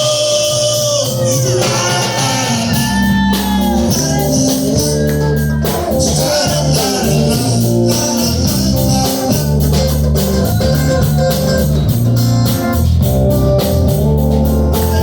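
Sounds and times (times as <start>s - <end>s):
person singing: 0.0s - 12.1s
band playing: 0.0s - 15.0s.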